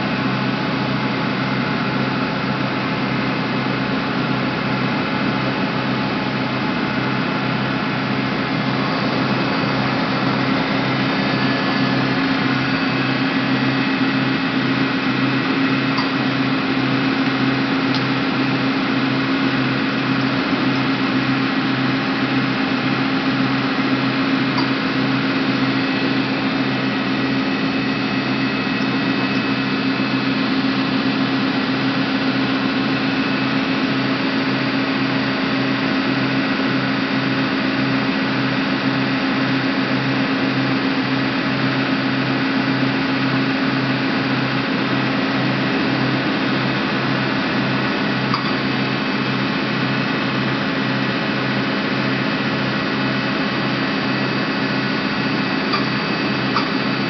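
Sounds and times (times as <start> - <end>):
lathe mechanical hum: 0.0 - 57.0.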